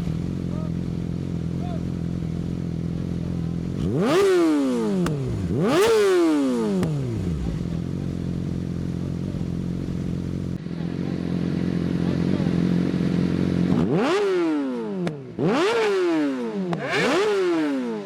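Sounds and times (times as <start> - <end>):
motorcycle idling and revving: 0.0 - 18.0.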